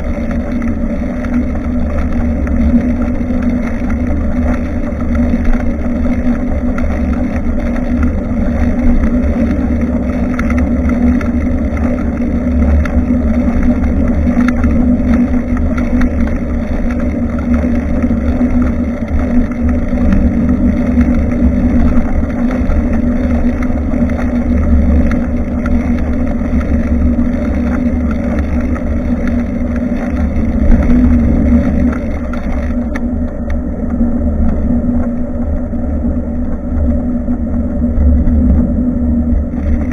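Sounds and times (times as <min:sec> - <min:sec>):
road noise: 0:00.0 - 0:39.9
wind rumble: 0:00.0 - 0:39.9.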